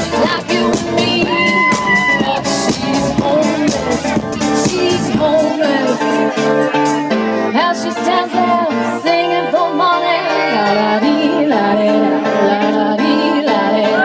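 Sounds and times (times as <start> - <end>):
woman singing into microphone: 0.0 - 6.7, 7.5 - 14.0
house music: 0.0 - 14.0.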